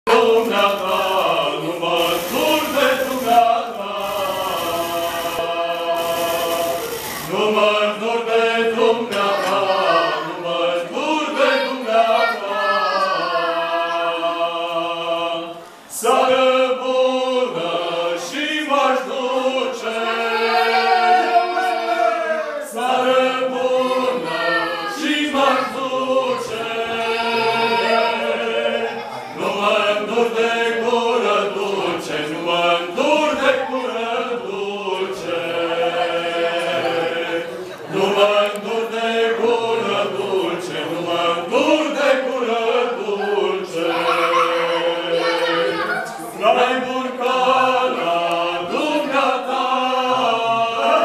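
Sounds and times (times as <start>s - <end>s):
male vocal group singing: 0.0s - 51.0s.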